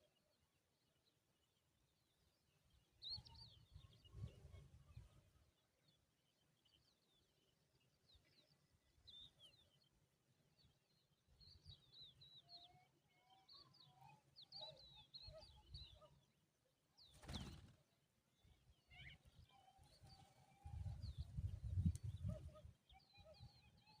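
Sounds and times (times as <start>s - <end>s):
small birds chirping: 1.0s - 24.0s.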